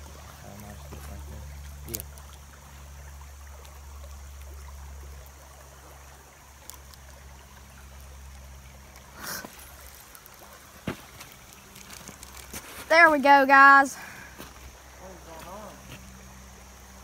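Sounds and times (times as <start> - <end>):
creek running over rocks: 0.0 - 17.0.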